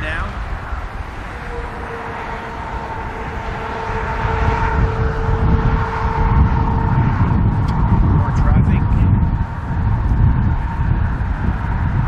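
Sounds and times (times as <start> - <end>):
highway traffic drone: 0.0 - 12.0
wind rumbling on microphone: 0.0 - 12.0.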